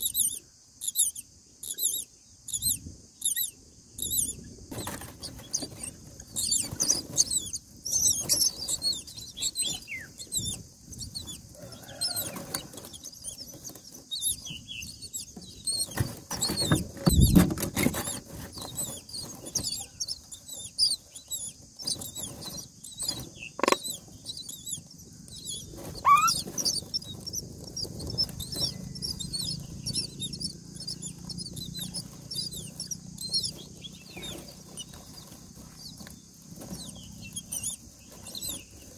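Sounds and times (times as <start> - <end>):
nestlings cheeping: 0.0 - 38.9.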